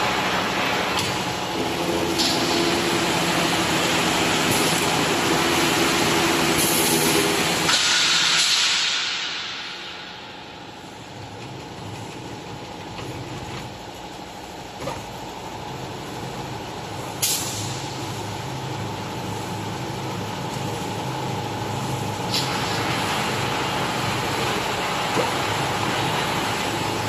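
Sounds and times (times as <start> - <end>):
loud continuous hiss: 0.0 - 27.0
motor and conveyor hum: 0.0 - 27.0.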